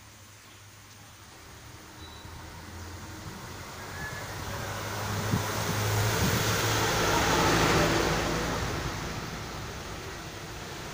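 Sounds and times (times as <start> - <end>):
falling rain hiss: 0.0 - 10.9
vehicle passing: 1.4 - 10.9.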